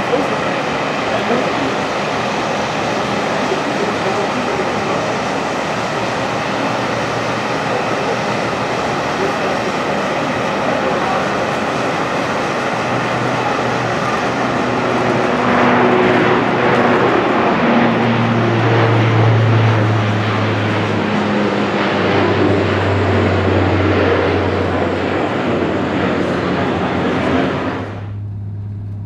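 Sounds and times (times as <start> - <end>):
turboprop plane taking off: 0.0 - 29.0.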